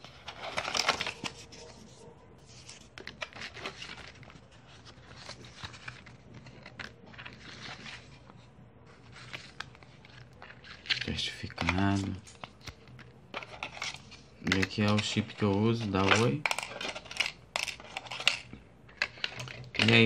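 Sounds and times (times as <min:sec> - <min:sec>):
paper rustling and crinkling: 0:00.0 - 0:20.0.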